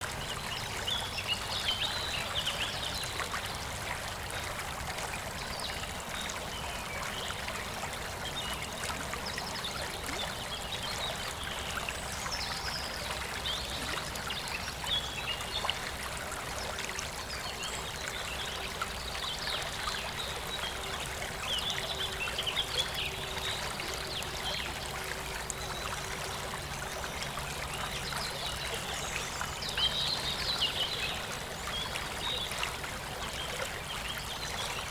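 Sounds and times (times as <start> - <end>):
river water babbling over stones: 0.0 - 34.9.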